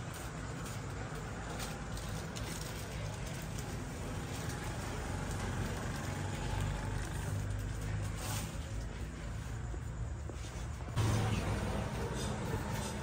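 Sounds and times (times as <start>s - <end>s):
faint indistinct voices: 0.0s - 13.0s.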